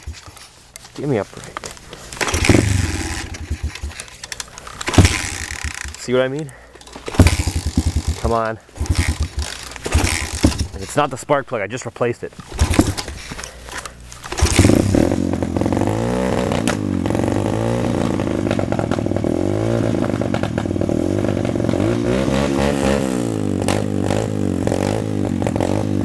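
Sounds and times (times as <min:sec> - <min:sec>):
pit bike engine revving: 0:02.1 - 0:11.0, 0:12.5 - 0:13.3, 0:14.3 - 0:26.0.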